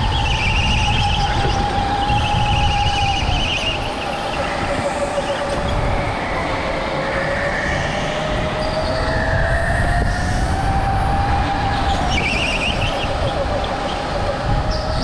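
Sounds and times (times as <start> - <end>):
go-kart motor whine: 0.0 - 15.0.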